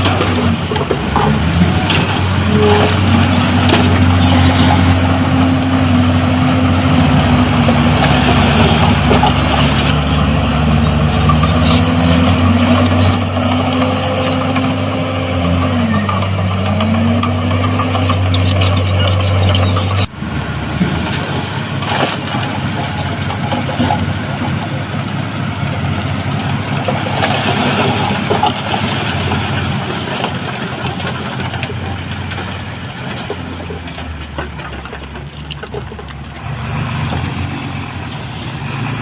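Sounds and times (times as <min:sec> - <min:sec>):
heavy diesel machinery engine: 0:00.0 - 0:39.0.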